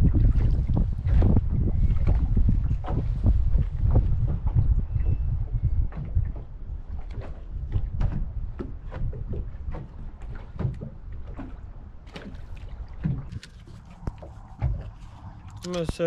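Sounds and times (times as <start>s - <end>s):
waves lapping against boat hull: 0.0s - 16.0s
wind rumbling on microphone: 0.0s - 16.0s.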